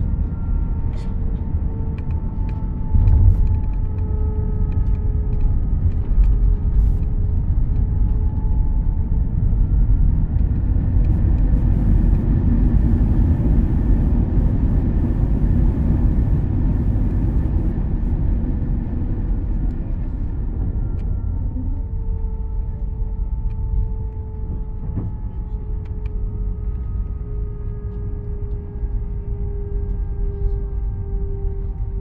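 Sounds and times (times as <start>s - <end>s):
airplane cabin low rumble: 0.0s - 32.0s
faint jet engine whine: 0.0s - 32.0s.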